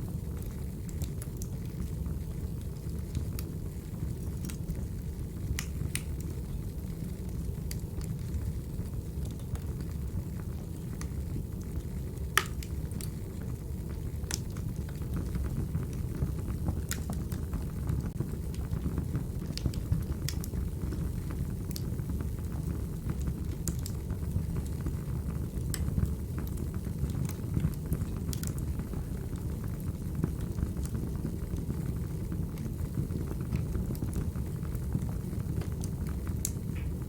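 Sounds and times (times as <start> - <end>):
fire popping and crackling: 0.0 - 37.0
low rumble of flames: 0.0 - 37.0.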